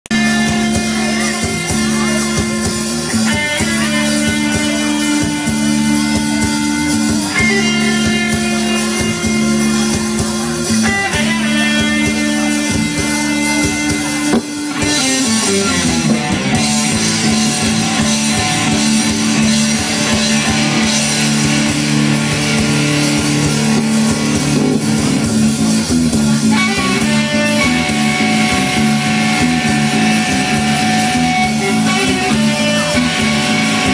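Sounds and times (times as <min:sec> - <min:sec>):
guitar-led rock music with drums: 0:00.1 - 0:33.9.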